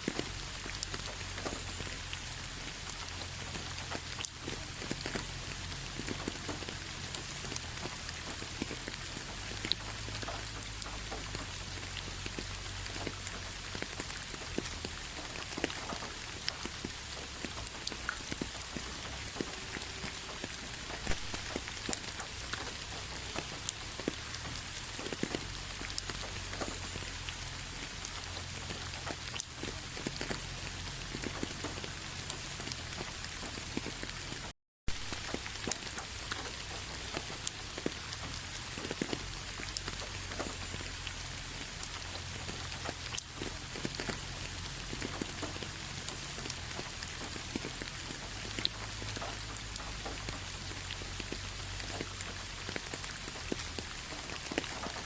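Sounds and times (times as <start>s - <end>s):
raindrops ticking: 0.0s - 55.0s
steady rain: 0.0s - 55.0s.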